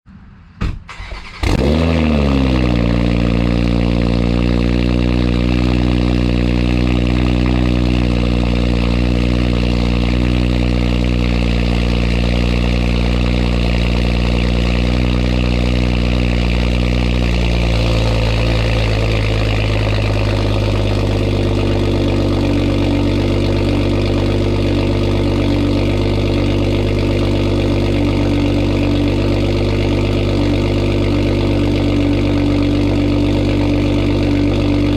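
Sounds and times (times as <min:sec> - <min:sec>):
car engine cold start and idle: 0:00.8 - 0:34.9.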